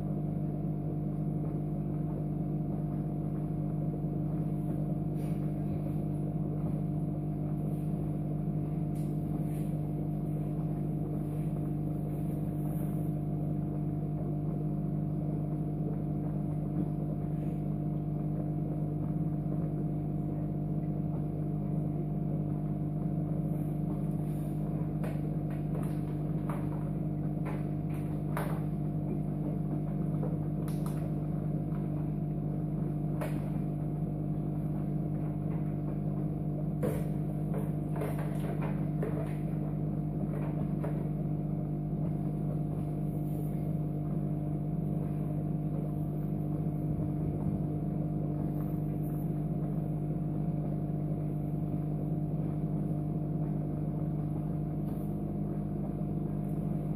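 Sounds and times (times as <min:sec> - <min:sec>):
electrical hum: 0:00.0 - 0:56.9.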